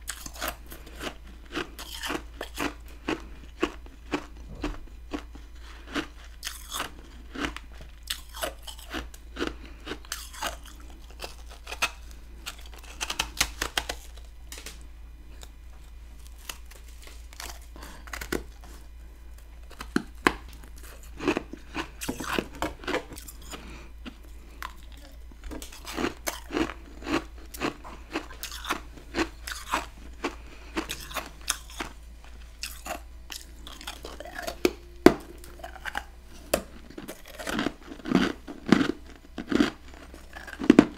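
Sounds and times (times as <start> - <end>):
chewing and crunching ice: 0.0 - 40.9.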